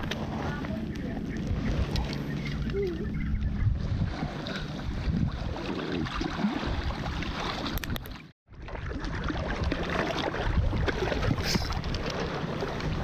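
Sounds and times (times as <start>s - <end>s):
wind buffeting microphone: 0.0s - 8.1s, 9.4s - 13.0s.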